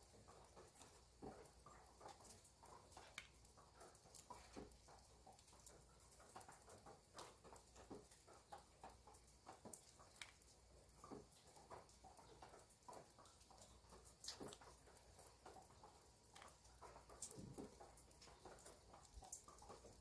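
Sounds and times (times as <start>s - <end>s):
rain drips and ticks: 0.0s - 20.0s.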